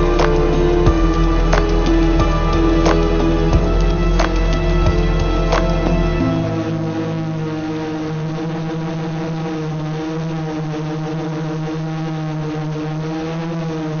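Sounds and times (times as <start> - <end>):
drone motors buzzing: 0.0 - 13.9.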